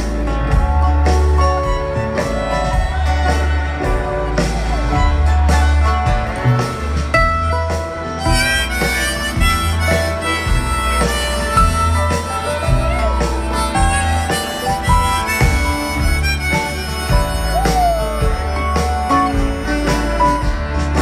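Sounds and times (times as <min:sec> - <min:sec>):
acoustic guitar: 0:00.0 - 0:21.0
drums keeping a steady beat: 0:00.0 - 0:21.0
harmonica melody: 0:00.0 - 0:21.0
upright bass: 0:00.0 - 0:21.0.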